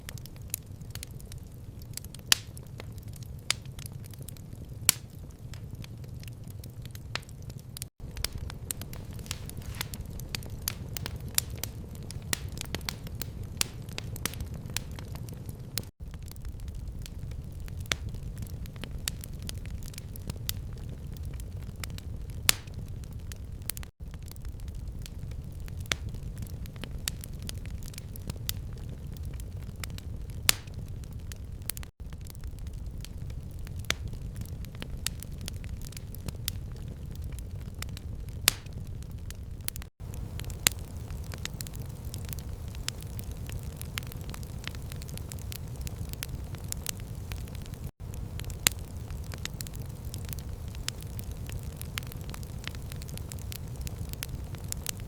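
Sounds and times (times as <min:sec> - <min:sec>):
fire crackling: 0:00.0 - 0:55.0
low rumble of flames: 0:00.0 - 0:55.0
sharp pops and snaps: 0:07.1 - 0:55.0.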